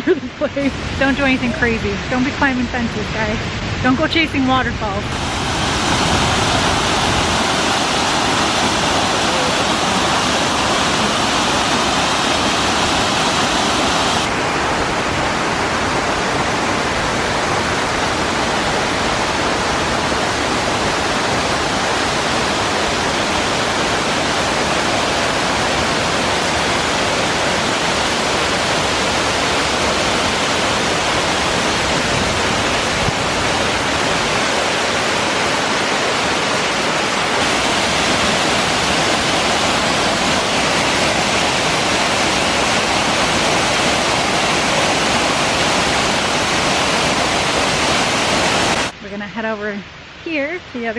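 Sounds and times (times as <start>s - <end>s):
waterfall roaring: 0.0s - 49.1s.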